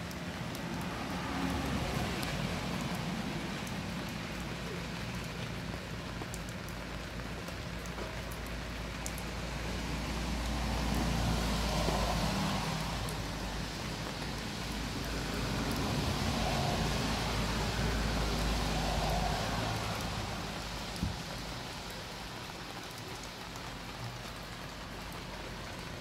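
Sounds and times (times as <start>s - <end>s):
heavy rain on tarp: 0.0s - 26.0s
raindrop clicks: 0.0s - 26.0s.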